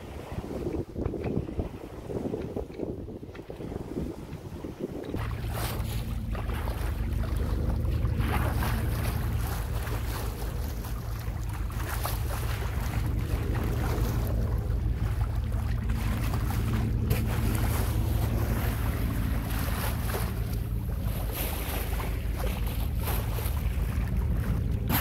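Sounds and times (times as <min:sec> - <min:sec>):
water washing along hull: 0:00.0 - 0:25.0
wind buffeting microphone: 0:00.0 - 0:25.0.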